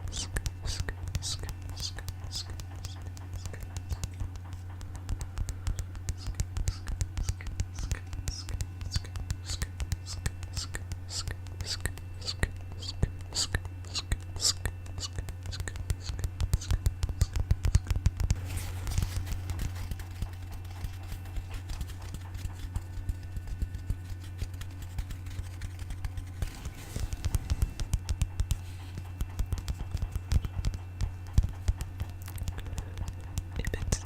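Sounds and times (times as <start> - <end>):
steady low hum: 0.0 - 34.0
tapping and scratching on objects: 0.0 - 34.0.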